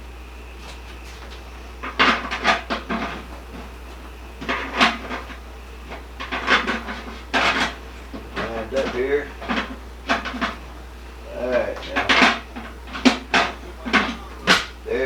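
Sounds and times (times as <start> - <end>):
metal lid clanking and scraping: 1.8 - 3.7, 4.4 - 15.0.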